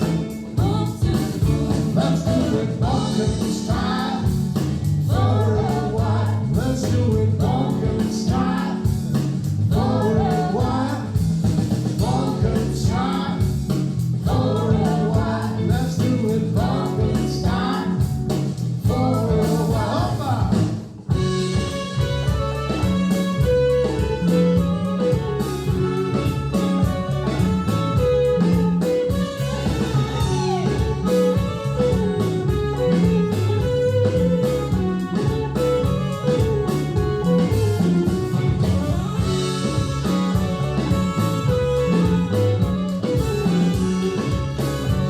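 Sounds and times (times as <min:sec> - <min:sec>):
music with guitar bass and drums: 0:00.0 - 0:45.0.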